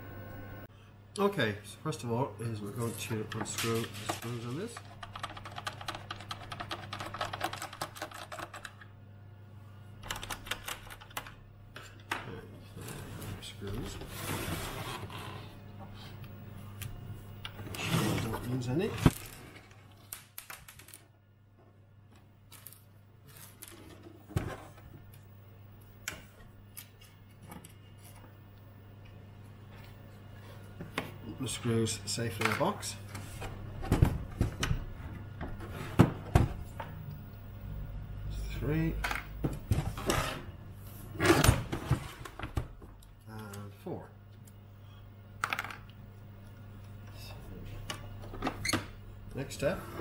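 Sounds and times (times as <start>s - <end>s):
steady low hum: 0.0s - 20.4s, 21.1s - 50.0s.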